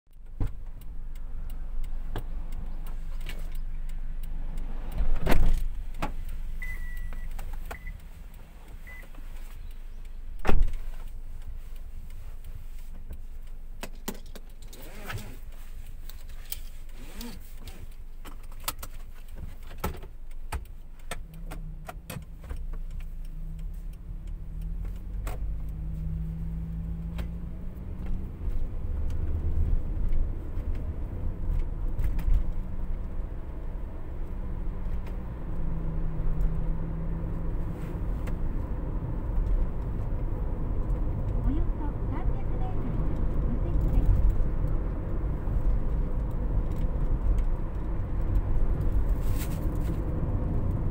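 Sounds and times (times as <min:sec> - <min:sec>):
engine hum: 0:00.1 - 0:50.9
light clicks and rattles: 0:00.1 - 0:50.9
low road rumble: 0:00.1 - 0:50.9.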